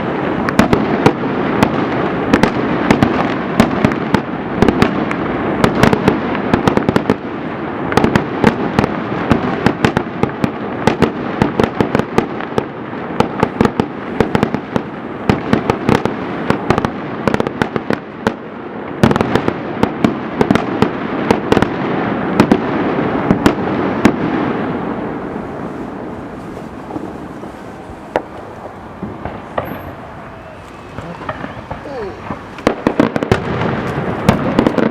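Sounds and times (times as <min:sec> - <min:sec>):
fireworks bangs and cracks: 0:00.0 - 0:34.9.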